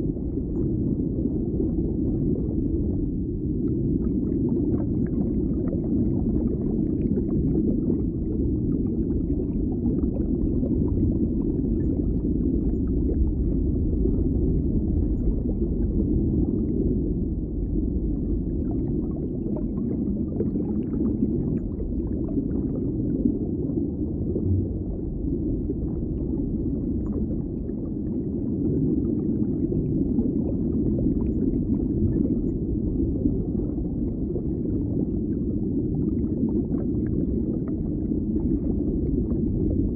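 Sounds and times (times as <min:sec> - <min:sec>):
faint bubbling crackle: 0:00.0 - 0:39.9
muffled underwater rumble: 0:00.0 - 0:39.9.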